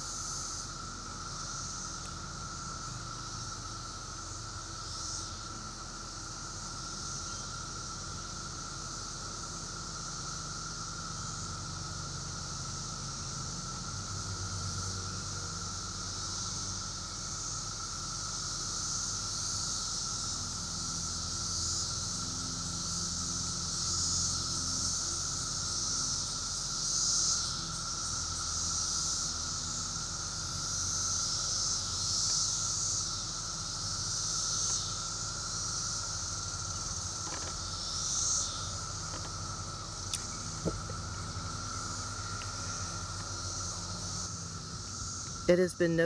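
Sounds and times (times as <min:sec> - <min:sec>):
cicadas buzzing: 0:00.0 - 0:46.0.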